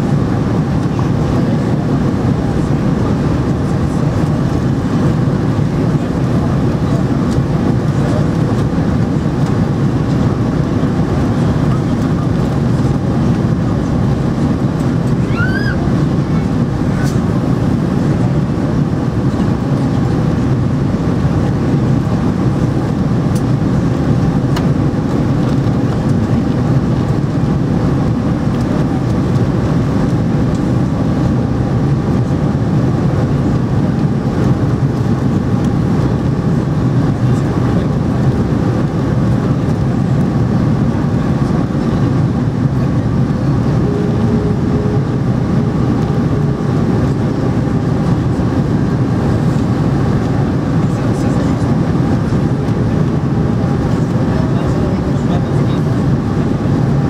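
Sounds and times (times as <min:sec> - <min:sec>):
airplane cabin engine noise: 0:00.0 - 0:57.0.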